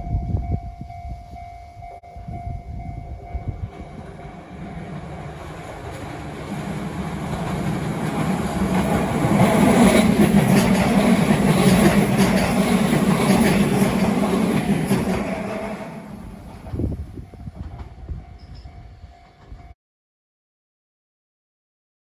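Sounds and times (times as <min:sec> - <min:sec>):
train wheels rumbling on rails: 0:00.0 - 0:19.8.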